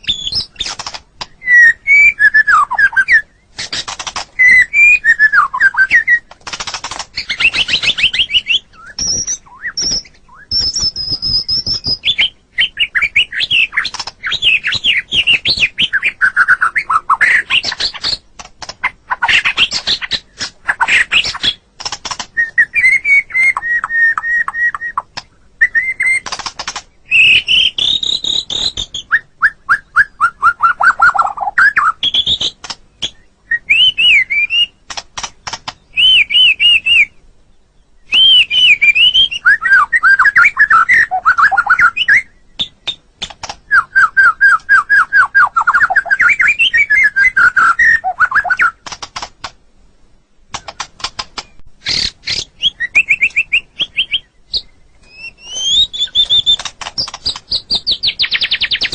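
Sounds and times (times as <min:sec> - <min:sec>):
songbird singing whistled phrases: 0:00.0 - 0:18.2, 0:22.2 - 0:34.8, 0:35.7 - 0:48.8, 0:51.4 - 0:58.9.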